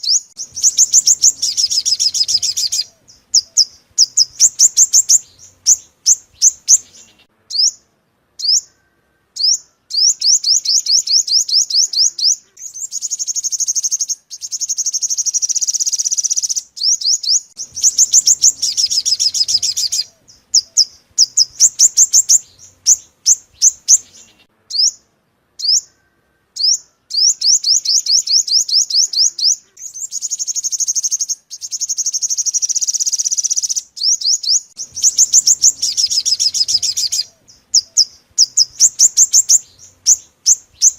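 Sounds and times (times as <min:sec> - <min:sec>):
sunbird chirping and trilling: 0:00.0 - 0:40.9.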